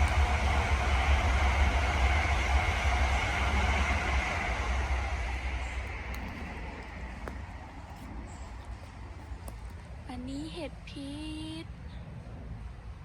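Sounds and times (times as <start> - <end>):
train rumbling on rails: 0.0 - 13.0
train whine: 0.0 - 13.0.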